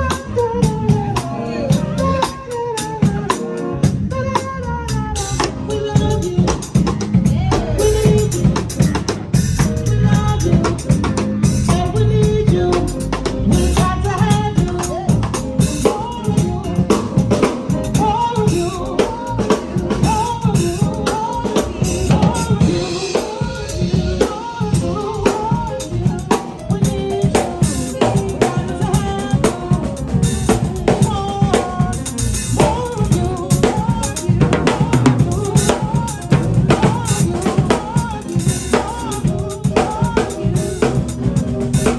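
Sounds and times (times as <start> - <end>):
bass guitar: 0.0 - 41.9
drum kit beat: 0.0 - 41.9
keyboard: 0.0 - 41.9.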